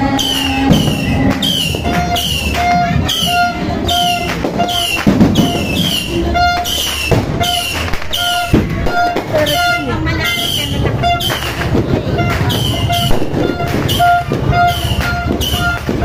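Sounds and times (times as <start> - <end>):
firecracker bangs: 0.0 - 16.0
fireworks whistling: 0.0 - 16.0.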